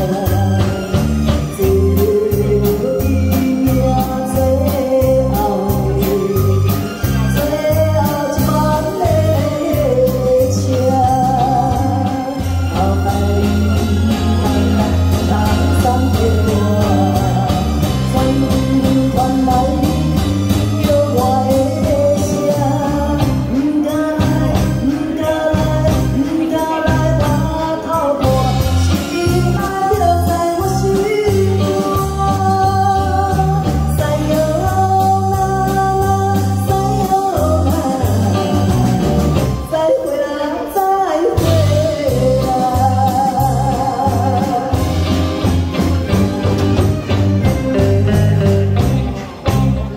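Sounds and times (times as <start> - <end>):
woman singing into a microphone: 0.0 - 45.5
live band with guitars and keyboard: 0.0 - 49.9.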